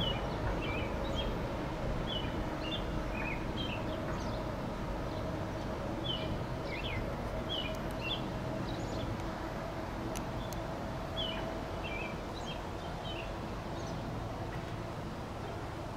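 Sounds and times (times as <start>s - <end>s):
low outdoor rumble: 0.0s - 15.9s.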